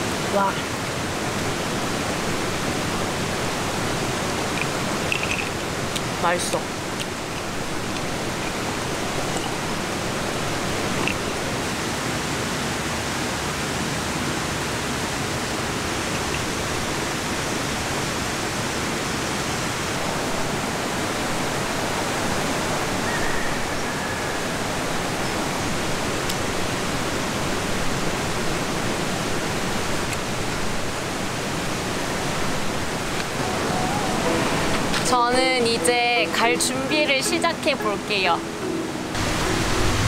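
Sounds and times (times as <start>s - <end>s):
mountain stream rushing: 0.0s - 40.0s.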